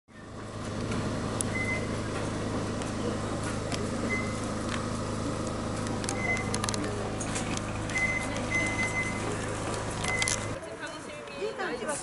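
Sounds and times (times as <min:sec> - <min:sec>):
electric train hum: 0:00.2 - 0:10.6.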